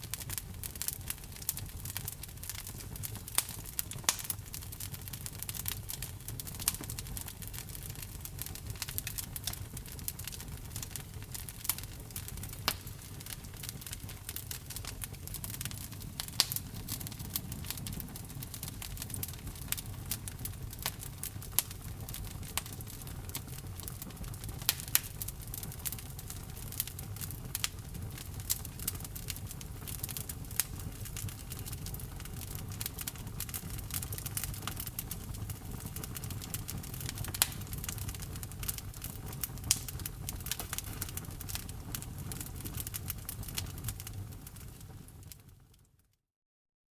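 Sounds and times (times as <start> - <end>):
low rumble of flames: 0.0 - 45.8
wood fire crackling and popping: 0.0 - 45.9.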